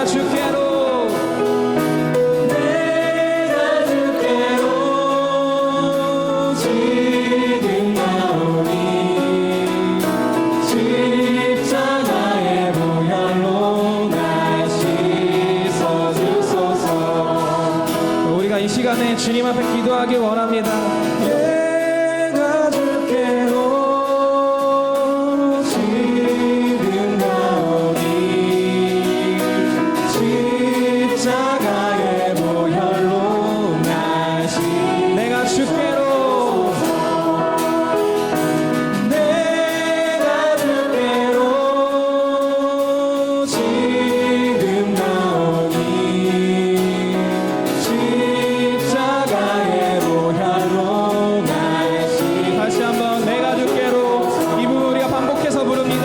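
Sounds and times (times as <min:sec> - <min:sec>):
acoustic guitar: 0:00.0 - 0:56.0
group singing a hymn: 0:00.0 - 0:56.0.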